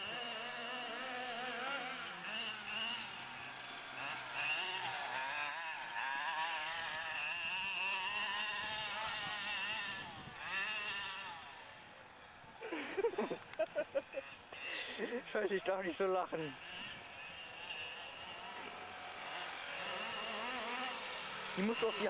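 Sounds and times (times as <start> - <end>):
two-stroke engine revving: 0.0 - 11.9, 12.7 - 22.0.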